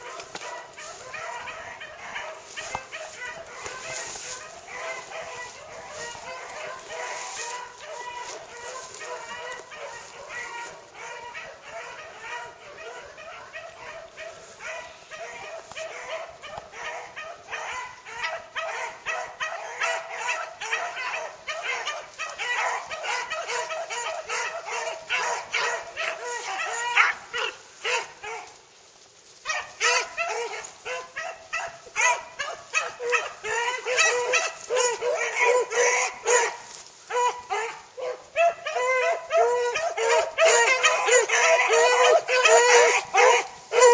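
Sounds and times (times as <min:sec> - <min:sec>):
dogs baying: 0:00.0 - 0:28.5, 0:29.4 - 0:43.9.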